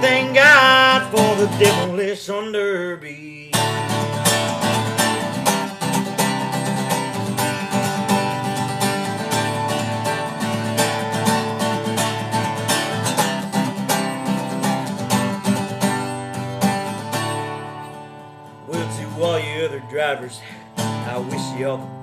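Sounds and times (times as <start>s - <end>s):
country guitars playing: 0.0s - 22.0s.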